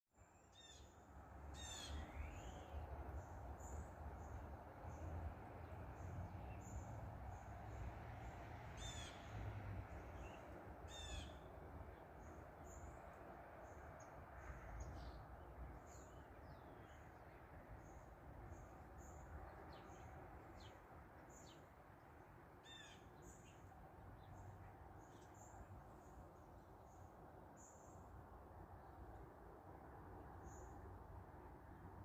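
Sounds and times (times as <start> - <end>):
small birds chirping: 1.6 - 21.8, 22.6 - 28.2.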